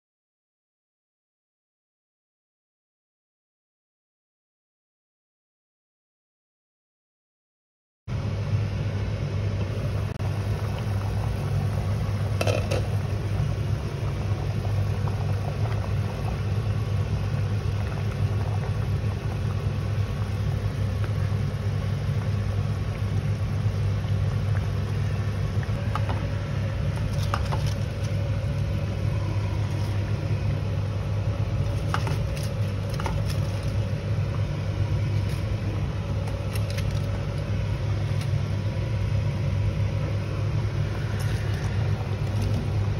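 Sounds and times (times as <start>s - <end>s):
low mechanical hum: 8.1s - 42.9s.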